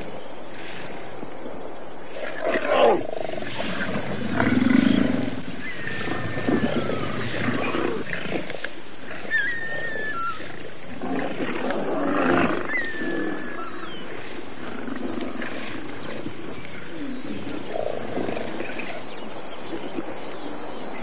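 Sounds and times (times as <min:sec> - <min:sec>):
lionesses growling and snarling: 0:02.1 - 0:21.0.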